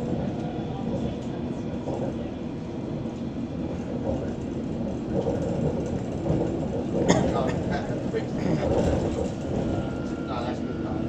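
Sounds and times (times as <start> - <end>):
train running on track rumble: 0.0 - 11.0.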